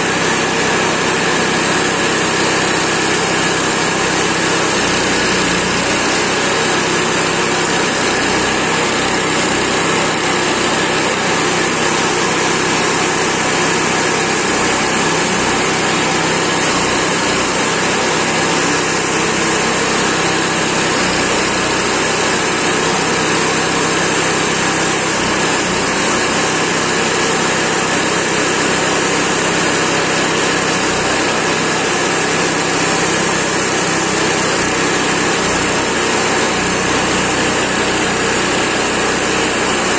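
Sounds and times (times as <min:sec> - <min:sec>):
chipper shredder engine running: 0:00.0 - 0:39.9.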